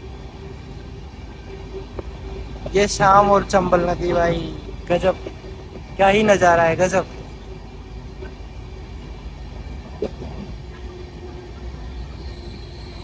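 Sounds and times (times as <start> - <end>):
train rumbling over bridge: 0.0 - 13.0.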